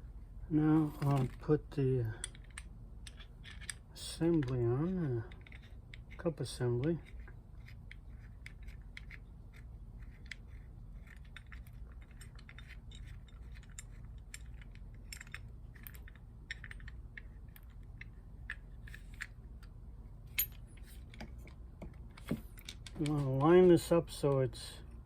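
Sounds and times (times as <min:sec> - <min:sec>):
low steady hum: 0:00.0 - 0:25.0
small metal and plastic parts clicking: 0:02.2 - 0:23.5.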